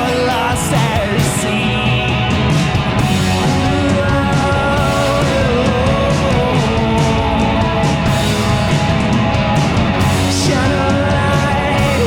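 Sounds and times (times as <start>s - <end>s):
bass guitar: 0.0s - 12.0s
drums: 0.0s - 12.0s
electric guitars: 0.0s - 12.0s.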